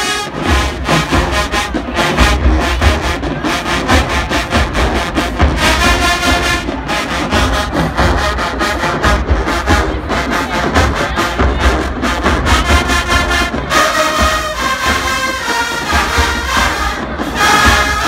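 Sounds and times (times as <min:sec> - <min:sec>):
brass section chords: 0:00.0 - 0:18.0
drumline beating cadence: 0:00.0 - 0:18.0.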